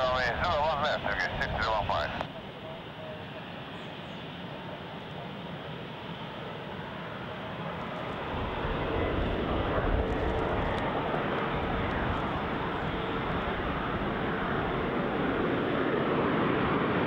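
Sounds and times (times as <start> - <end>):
jet rumble: 0.0 - 17.0.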